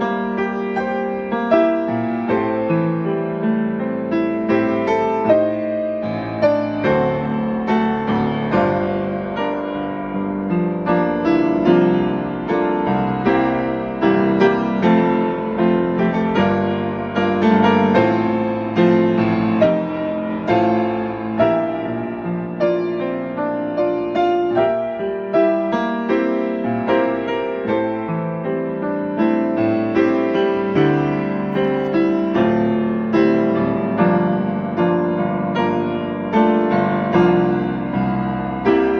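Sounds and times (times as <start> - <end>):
solo piano hymn accompaniment: 0.0 - 38.9.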